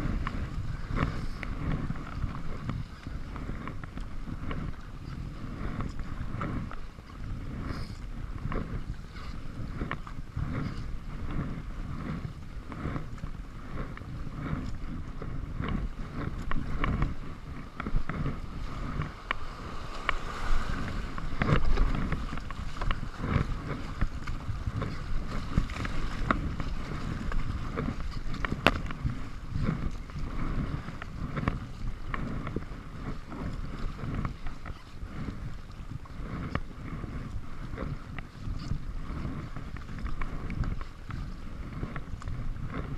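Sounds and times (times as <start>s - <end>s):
paddle splashing water: 0.0s - 42.9s
wind rumble on microphone: 0.0s - 42.9s.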